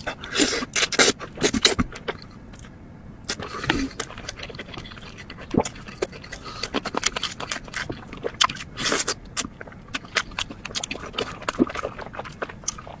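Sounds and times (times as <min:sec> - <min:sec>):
person chewing with mouth smacks: 0:00.0 - 0:02.7, 0:03.3 - 0:13.0.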